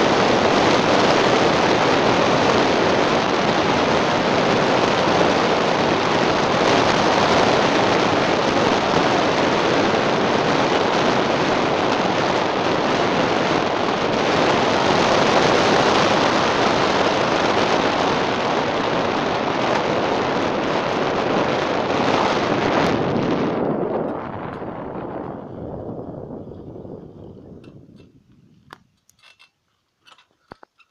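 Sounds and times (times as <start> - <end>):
road noise: 0.0 - 30.9
wind noise on microphone: 0.0 - 30.9.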